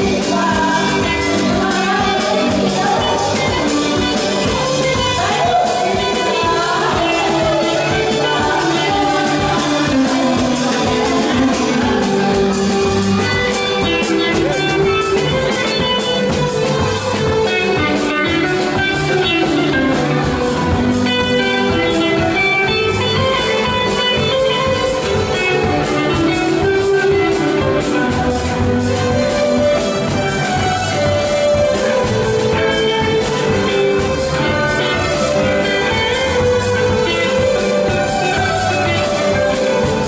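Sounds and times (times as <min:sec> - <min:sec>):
dance music with plucked guitar: 0:00.0 - 0:40.0.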